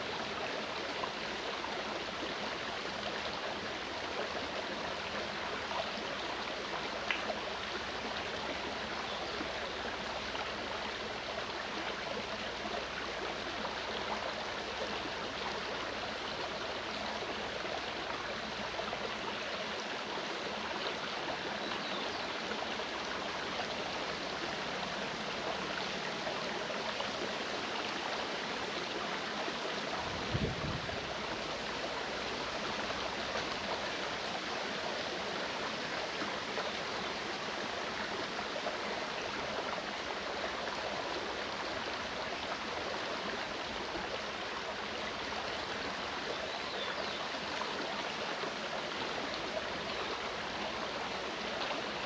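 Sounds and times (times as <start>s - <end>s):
stream running over rocks: 0.0s - 52.0s.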